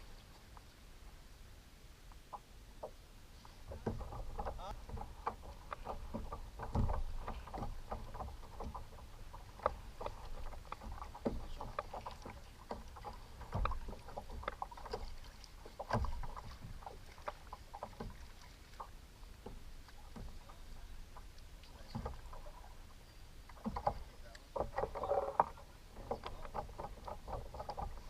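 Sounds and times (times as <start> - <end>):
water splashing against kayak hull: 0.0 - 28.0
small knocks on hull: 3.6 - 28.0.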